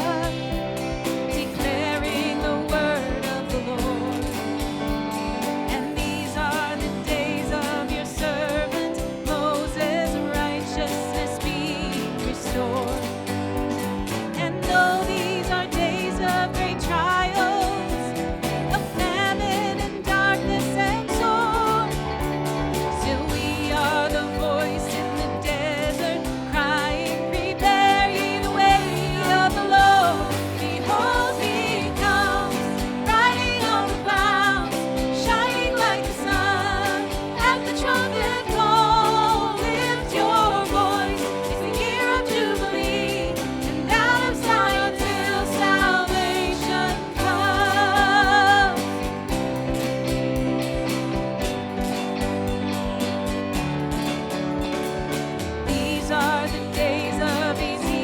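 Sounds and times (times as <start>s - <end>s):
person singing with vibrato: 0.0s - 49.8s, 55.7s - 58.0s
instrumental accompaniment: 0.0s - 58.0s.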